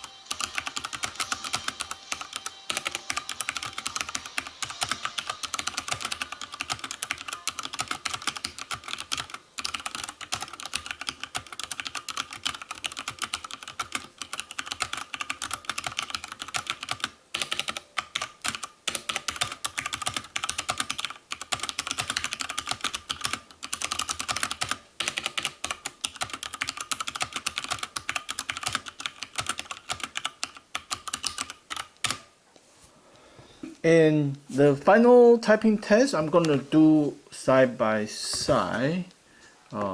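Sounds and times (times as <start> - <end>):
mechanical keyboard typing: 0.0 - 32.3.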